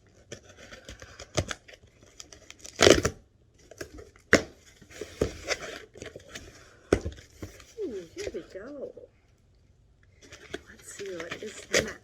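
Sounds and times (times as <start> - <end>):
cardboard box tearing: 0.2 - 8.7, 10.2 - 12.0.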